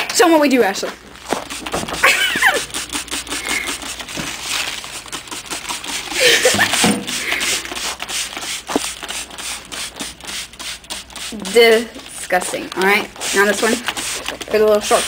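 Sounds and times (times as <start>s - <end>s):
paper towels rubbing on steel: 1.1s - 15.0s
spray bottle squirting: 1.2s - 15.0s.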